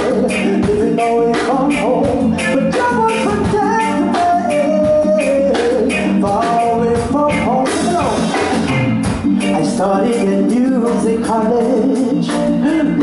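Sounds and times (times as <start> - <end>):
man singing: 0.0 - 8.8, 9.4 - 13.0
bass guitar: 0.0 - 13.0
drums: 0.0 - 13.0
electric guitar: 0.0 - 13.0.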